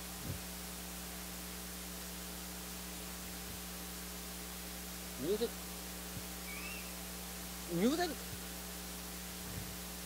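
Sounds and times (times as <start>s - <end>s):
electrical mains hum: 0.0s - 10.0s
faint hiss: 0.0s - 10.0s.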